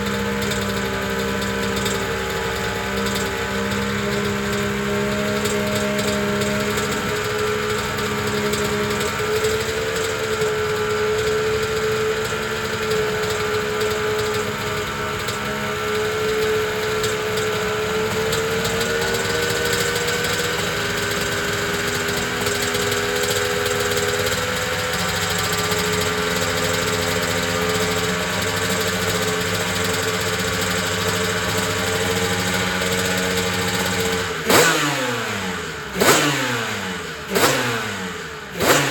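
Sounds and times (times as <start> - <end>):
two-stroke engine idling: 0.0 - 38.9.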